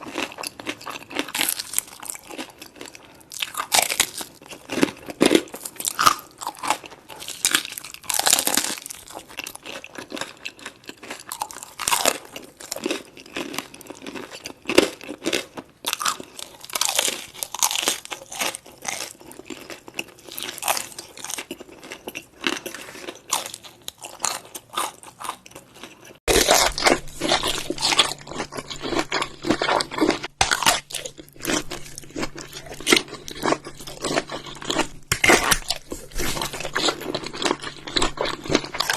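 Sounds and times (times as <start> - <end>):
crunchy biting and chewing: 0.0 - 38.9.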